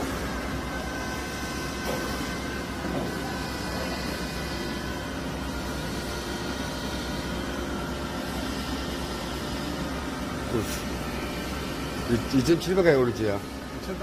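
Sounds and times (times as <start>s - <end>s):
machine spindle hum: 0.0s - 14.0s.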